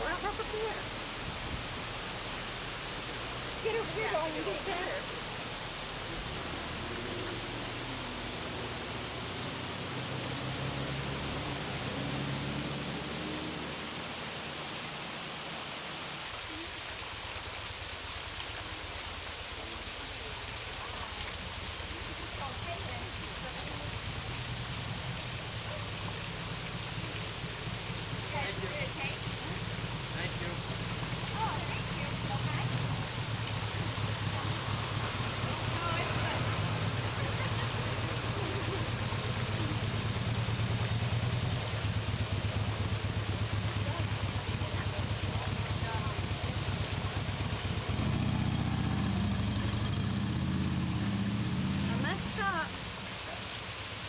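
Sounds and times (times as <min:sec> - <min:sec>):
waterfall rushing hiss: 0:00.0 - 0:54.0.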